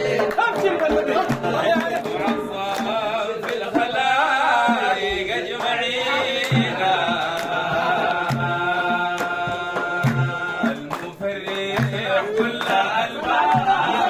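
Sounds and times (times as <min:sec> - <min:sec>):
drum strokes: 0:00.0 - 0:14.0
person singing: 0:00.0 - 0:14.0.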